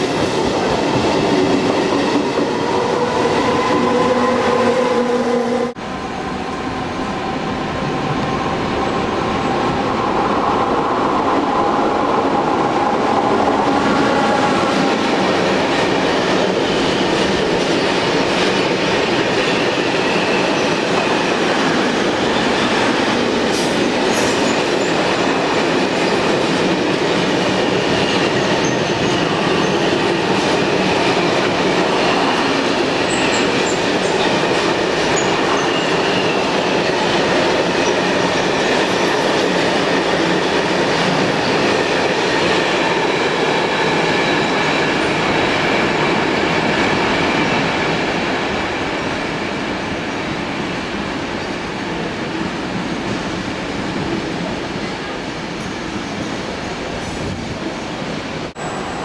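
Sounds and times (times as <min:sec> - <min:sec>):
freight train rolling past: 0:00.0 - 0:59.0
passenger train steady tones: 0:00.0 - 0:59.0
train wheels on rails: 0:00.0 - 0:59.0.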